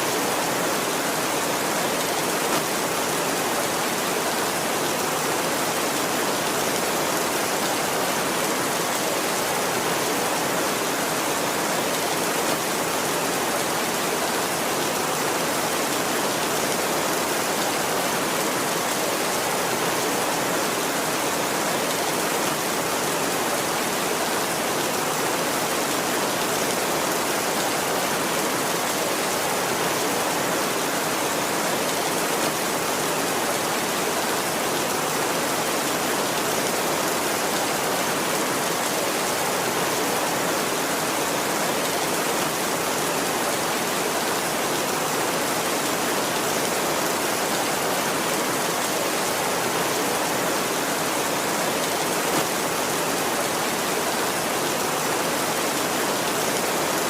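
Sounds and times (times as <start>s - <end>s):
heavy rain on a tin roof: 0.0s - 57.0s.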